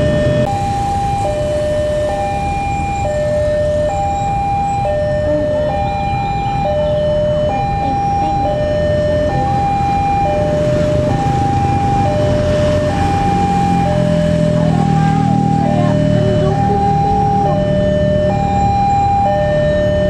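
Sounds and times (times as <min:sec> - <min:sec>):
traffic noise: 0:00.0 - 0:20.0
two-tone crossing alarm: 0:00.0 - 0:20.0.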